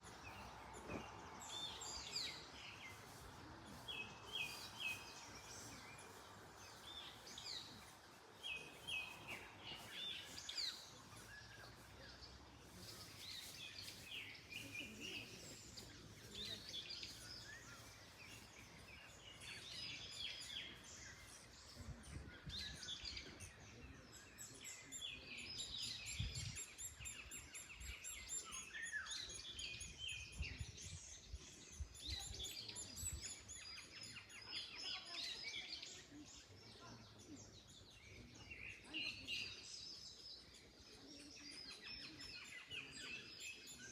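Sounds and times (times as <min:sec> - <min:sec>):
wind in the trees: 0:00.0 - 0:42.4
songbirds singing and calling: 0:00.0 - 0:43.9.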